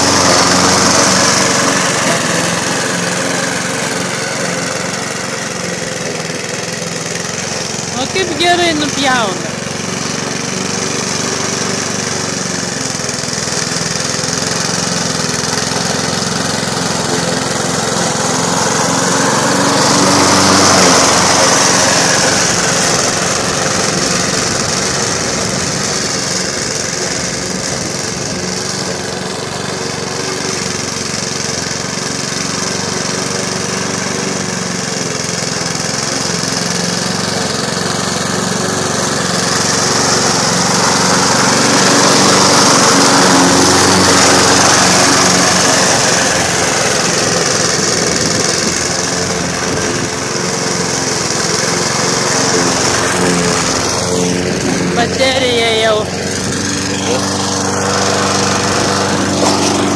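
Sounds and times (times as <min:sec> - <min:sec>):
lawnmower engine running: 0:00.0 - 0:59.9.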